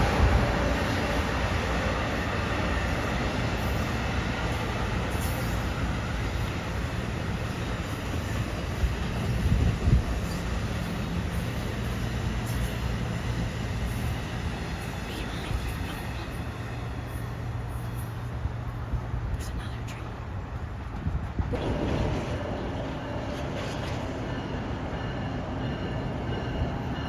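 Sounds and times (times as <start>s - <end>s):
train wheels rumbling: 0.0s - 19.4s, 20.0s - 27.0s.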